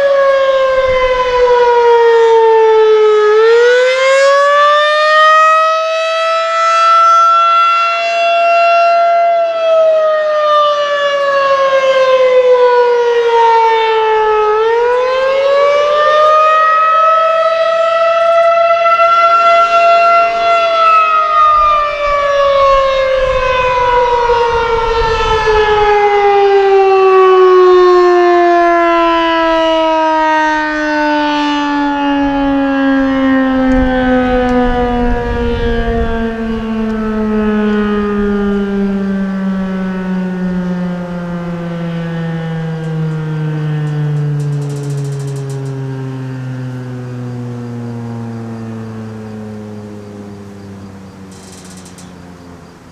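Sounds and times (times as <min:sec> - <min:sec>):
warning siren wailing: 0:00.0 - 0:52.9.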